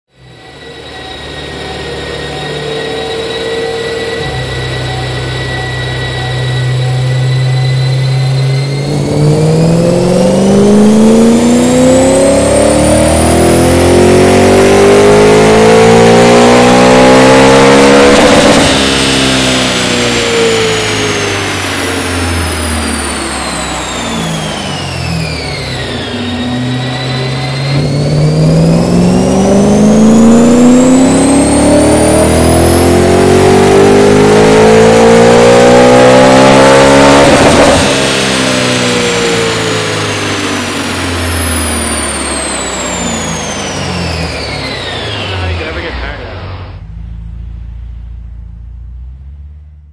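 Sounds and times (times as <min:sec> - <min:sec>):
car engine revving: 0:00.1 - 0:49.9
supercharger whine: 0:00.1 - 0:49.9.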